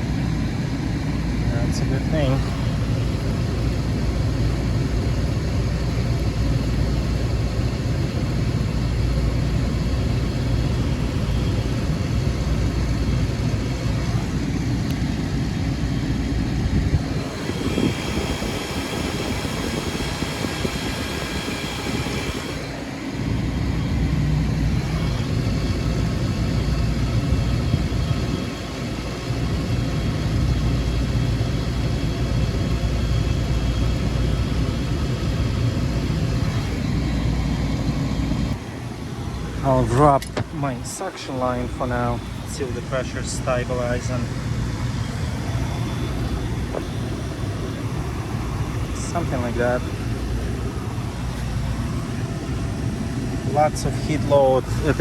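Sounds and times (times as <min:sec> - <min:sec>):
compressor hum: 0:00.0 - 0:55.0
condenser fan: 0:00.0 - 0:55.0.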